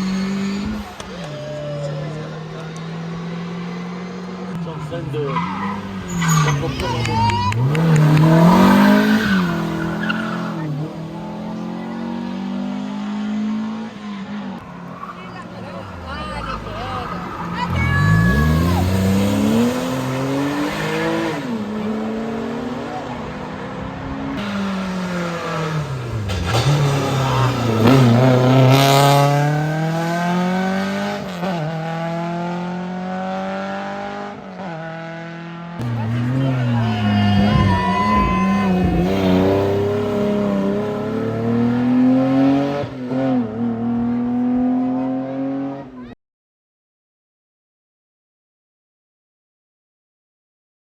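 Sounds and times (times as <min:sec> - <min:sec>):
race car engine accelerating: 0:00.0 - 0:46.0.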